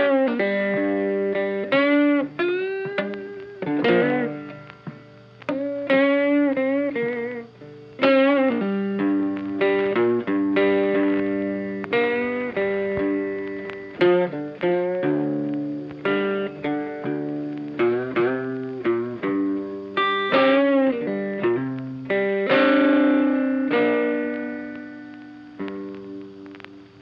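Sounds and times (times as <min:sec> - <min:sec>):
guitar plucking slow melody: 0:00.0 - 0:27.0.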